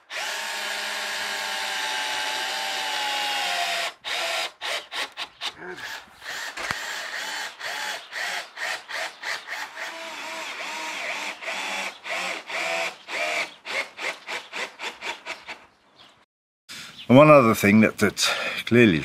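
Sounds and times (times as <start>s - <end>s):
cordless drill boring into wood: 0.0s - 15.6s.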